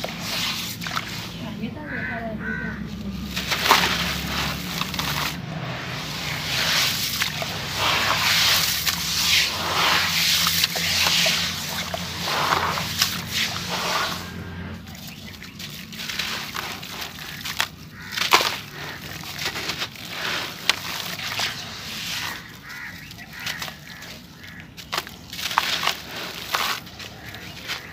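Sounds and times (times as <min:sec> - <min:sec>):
water splashing and sloshing: 0:00.0 - 0:27.9
crumbling gritty block crunching: 0:02.6 - 0:27.9.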